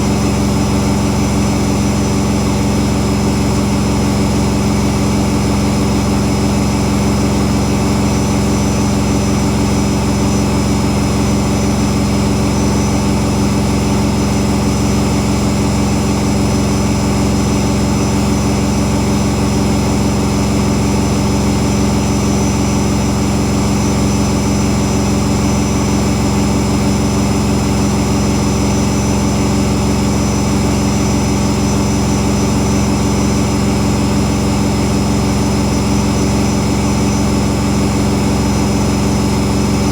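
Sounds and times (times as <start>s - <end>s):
washing machine spin cycle: 0.0s - 39.9s.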